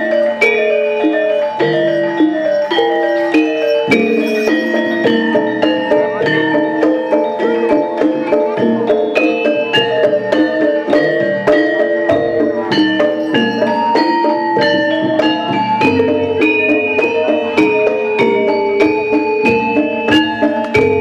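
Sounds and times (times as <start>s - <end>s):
gamelan playing dance music: 0.0s - 21.0s.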